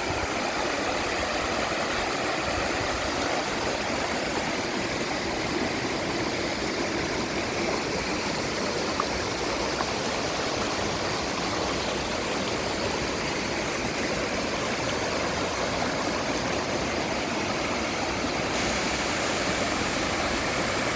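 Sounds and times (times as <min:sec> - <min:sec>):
stream flowing over rocks: 0:00.0 - 0:20.9.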